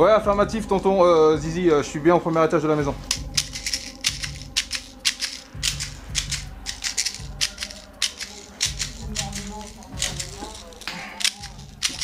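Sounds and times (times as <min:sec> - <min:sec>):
pulsing background music: 0:00.0 - 0:12.0.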